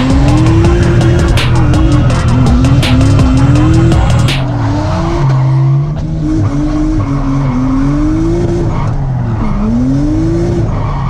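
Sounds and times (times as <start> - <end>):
car engine at high revs: 0.0 - 11.0
tyres skidding: 0.0 - 11.0.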